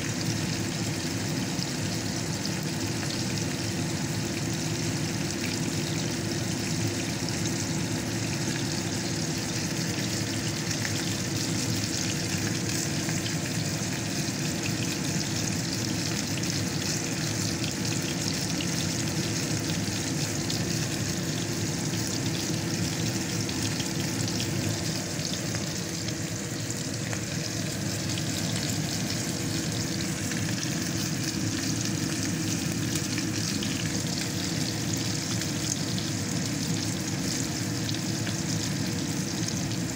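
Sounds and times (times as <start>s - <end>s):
steak sizzling in frying pan: 0.0s - 39.9s.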